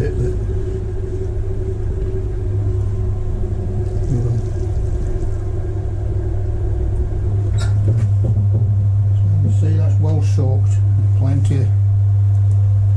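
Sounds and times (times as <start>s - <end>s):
potter's wheel motor humming: 0.0s - 12.9s.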